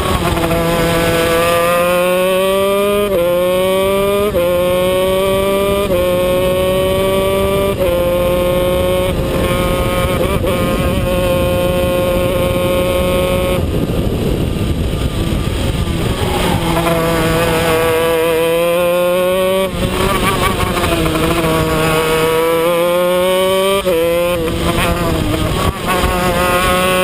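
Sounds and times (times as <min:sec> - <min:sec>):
kart engine revving through gears: 0:00.0 - 0:27.0.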